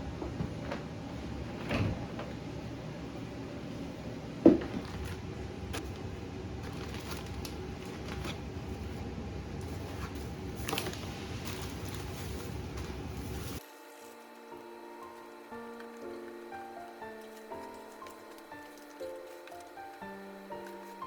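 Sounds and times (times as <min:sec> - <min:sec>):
room noise: 0:00.0 - 0:21.0.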